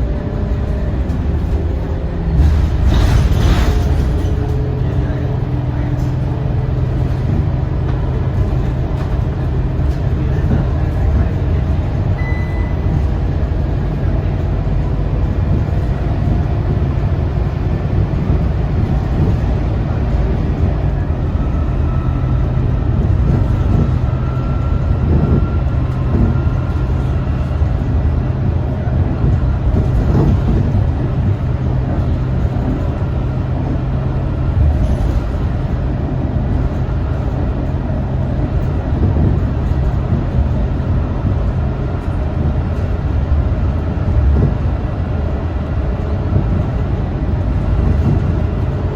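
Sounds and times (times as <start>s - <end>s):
bus engine drone: 0.0s - 48.9s.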